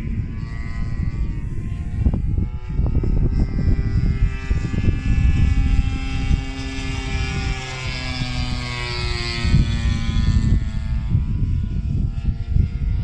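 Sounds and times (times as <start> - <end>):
model plane engine droning: 0.0 - 13.0
wind rumble on microphone: 0.0 - 13.0.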